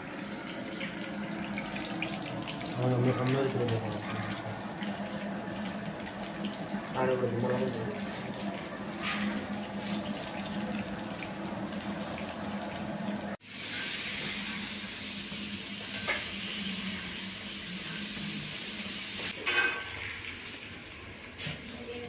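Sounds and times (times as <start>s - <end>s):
food sizzling in wok: 0.0s - 22.0s.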